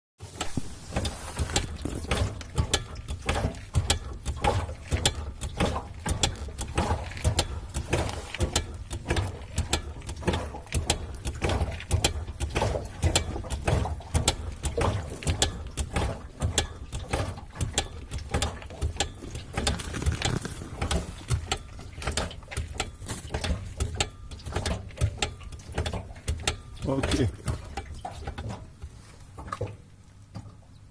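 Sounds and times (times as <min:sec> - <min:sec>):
car rear end clicking and knocking: 0:00.3 - 0:30.6.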